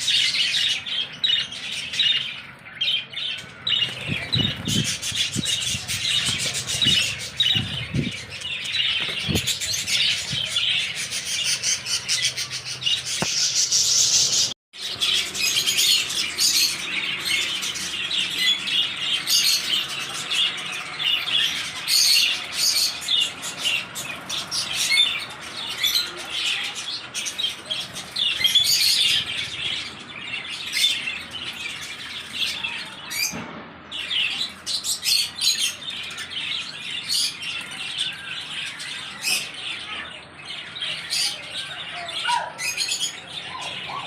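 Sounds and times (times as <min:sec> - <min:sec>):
parrots chirping and chattering: 0:00.0 - 0:44.0.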